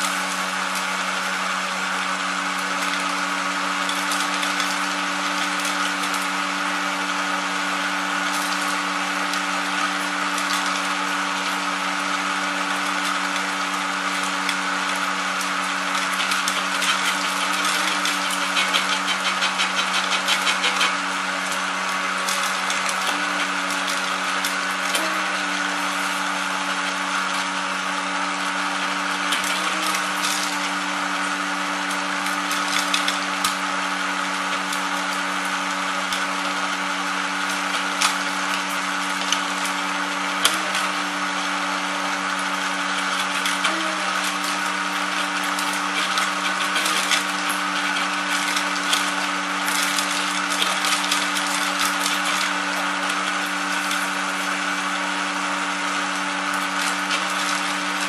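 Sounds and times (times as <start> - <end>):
motor hum: 0.0 - 58.0.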